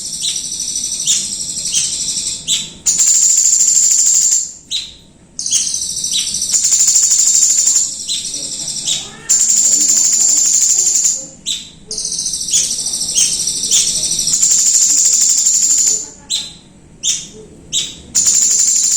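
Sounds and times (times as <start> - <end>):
bird chirps: 0.0 - 18.9
songbird trills: 0.0 - 18.9.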